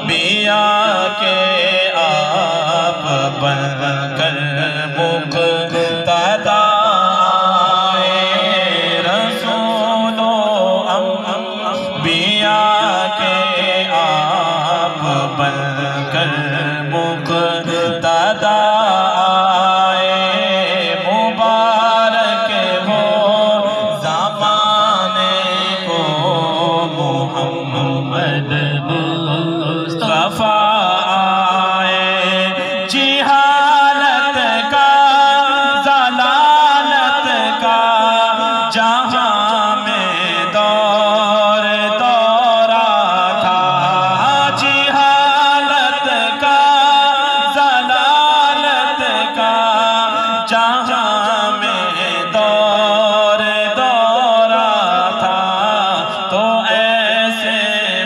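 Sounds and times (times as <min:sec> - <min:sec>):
man singing into microphone: 0:00.0 - 0:58.0.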